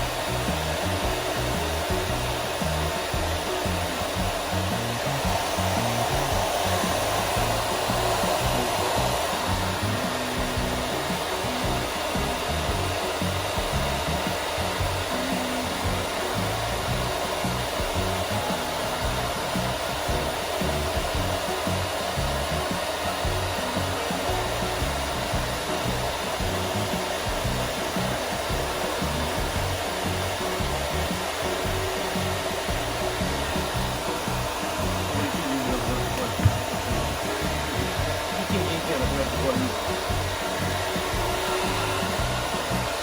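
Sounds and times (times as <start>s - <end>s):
dryer blowing: 0.0s - 43.0s.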